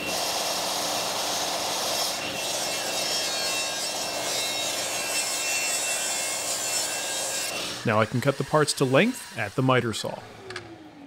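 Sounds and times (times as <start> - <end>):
table saw cutting wood: 0.0 - 11.0.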